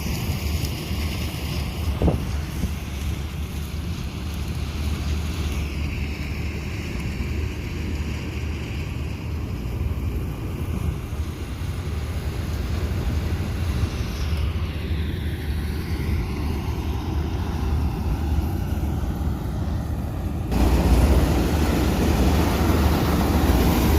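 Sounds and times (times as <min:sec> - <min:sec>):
combine harvester engine drone: 0:00.0 - 0:23.9.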